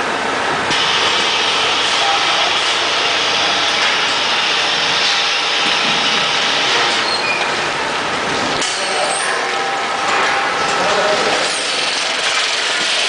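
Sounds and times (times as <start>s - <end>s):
higher bright machine noise: 0.0s - 13.0s
packing machine mechanical noise: 0.7s - 13.0s.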